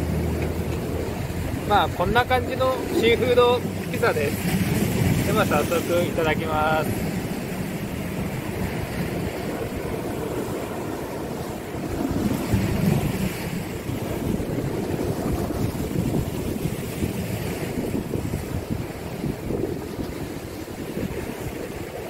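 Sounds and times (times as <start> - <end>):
waves washing against seawall: 0.0 - 22.0
wind buffeting microphone: 0.0 - 22.0.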